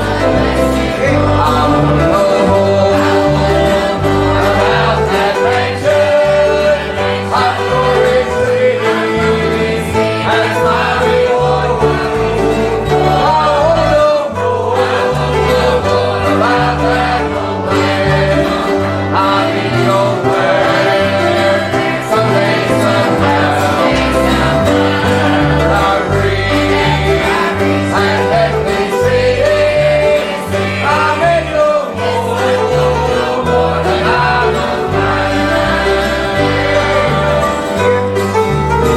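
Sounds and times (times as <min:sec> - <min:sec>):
bass line: 0:00.0 - 0:38.9
guitar: 0:00.0 - 0:38.9
person singing: 0:00.0 - 0:38.9.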